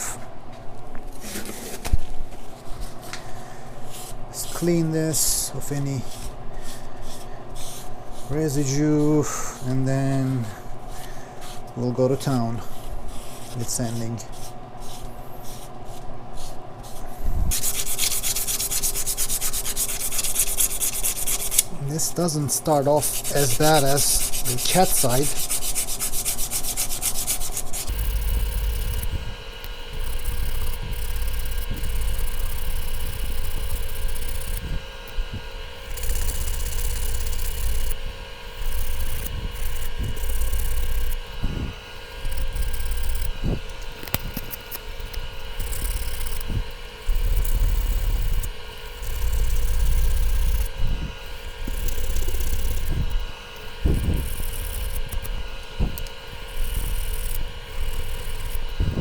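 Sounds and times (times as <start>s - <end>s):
steady hum: 0.0s - 59.0s
sandpaper rubbing on metal: 5.5s - 9.8s, 10.4s - 59.0s.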